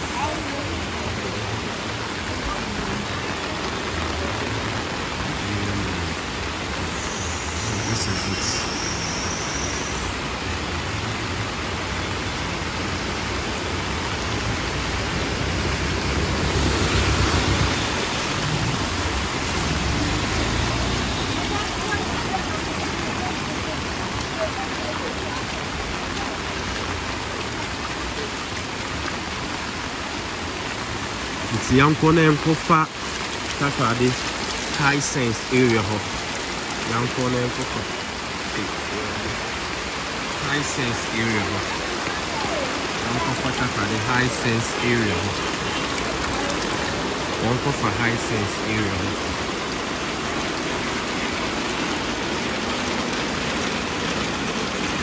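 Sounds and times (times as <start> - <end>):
heavy rain on street and umbrella: 0.0 - 55.0.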